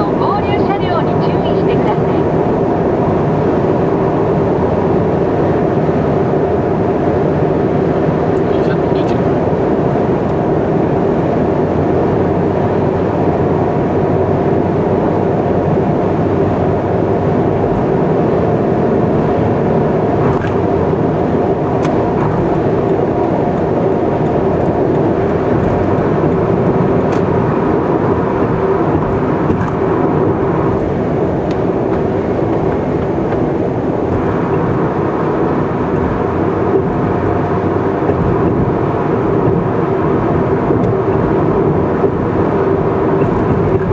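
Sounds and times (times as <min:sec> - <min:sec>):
car engine and tyre hum: 0:00.0 - 0:43.9.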